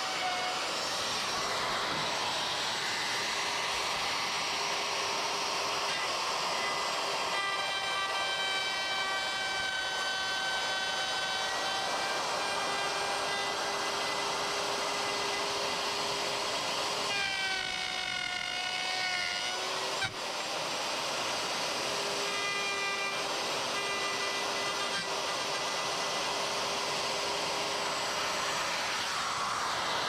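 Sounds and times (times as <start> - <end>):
electric router whine: 0.0 - 30.0.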